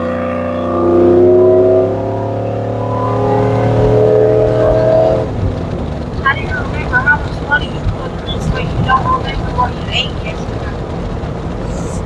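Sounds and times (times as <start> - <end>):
low road hum: 0.0 - 12.0
truck engine accelerating: 0.0 - 12.0.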